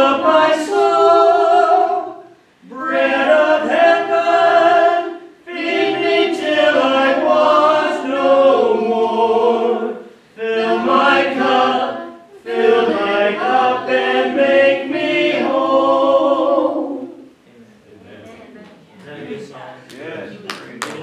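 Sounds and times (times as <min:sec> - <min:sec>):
congregation singing a hymn: 0:00.0 - 0:17.4.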